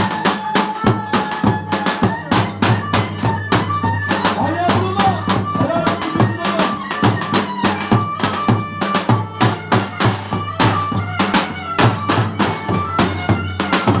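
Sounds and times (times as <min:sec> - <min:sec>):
drum quick steady beat: 0:00.0 - 0:14.0.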